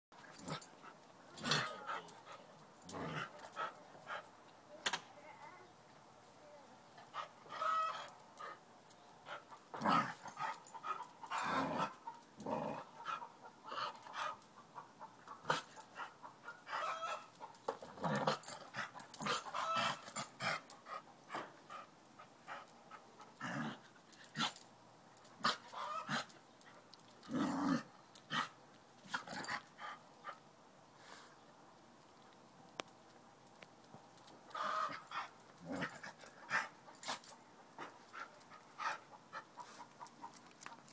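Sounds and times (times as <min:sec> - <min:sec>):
dog play noises: 0:00.2 - 0:04.7, 0:05.3 - 0:30.5, 0:33.4 - 0:40.9.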